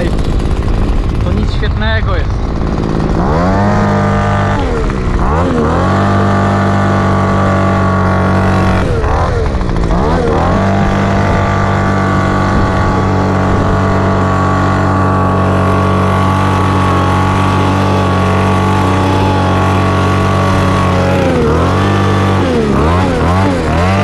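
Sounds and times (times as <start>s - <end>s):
air rushing from nozzle: 0.0s - 24.0s
leaf blower engine: 0.0s - 24.0s.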